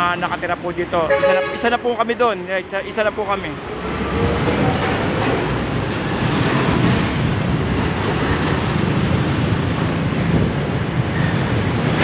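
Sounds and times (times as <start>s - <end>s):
heavy road traffic rumble: 0.0s - 12.0s.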